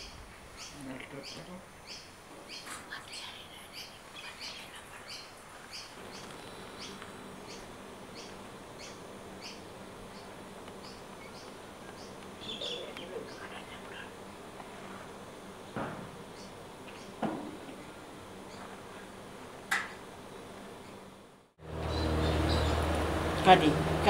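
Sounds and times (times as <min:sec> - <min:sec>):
faint low hum: 0:00.0 - 0:19.6.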